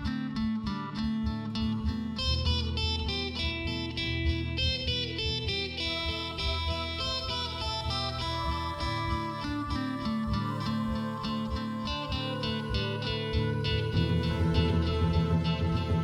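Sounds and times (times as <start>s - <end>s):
guitar music over steady beat: 0.0s - 16.0s.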